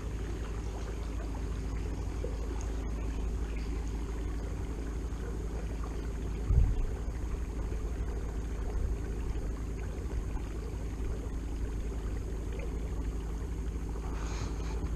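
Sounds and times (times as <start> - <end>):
electric trolling motor humming: 0.0 - 14.9
faint water sounds: 0.0 - 14.9.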